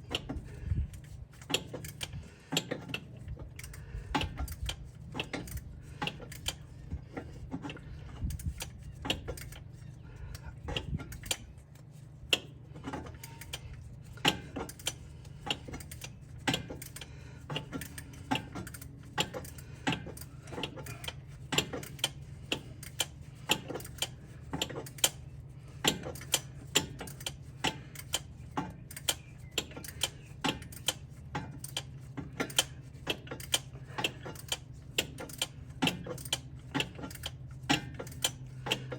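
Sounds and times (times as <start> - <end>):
steady low hum: 0.0 - 38.9
hand tools clicking on metal: 0.1 - 9.7, 10.3 - 25.2, 25.8 - 38.9.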